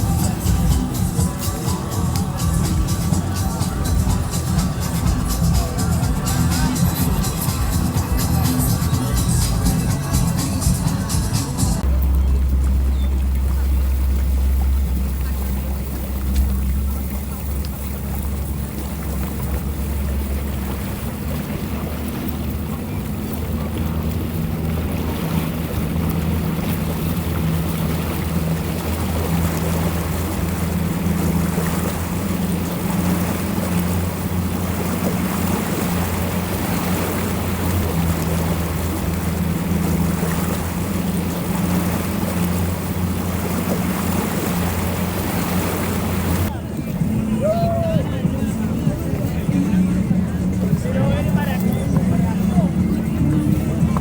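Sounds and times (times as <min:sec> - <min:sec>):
motorboat engines droning: 0:00.0 - 0:54.0
water noise: 0:00.0 - 0:54.0.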